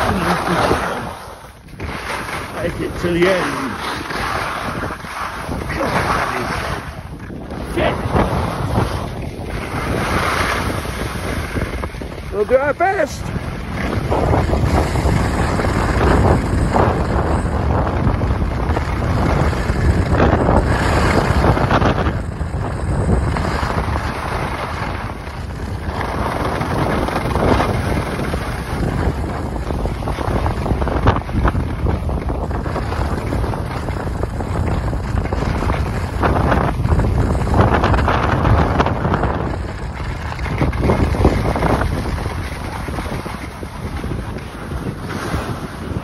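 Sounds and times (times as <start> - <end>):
skis scraping on packed snow: 0.0 - 46.0
wind buffeting microphone: 0.0 - 46.0.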